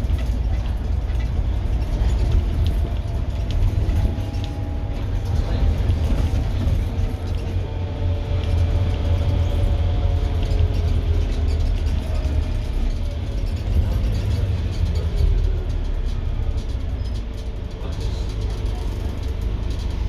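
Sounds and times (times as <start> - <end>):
bus engine drone with whine: 0.0 - 20.0.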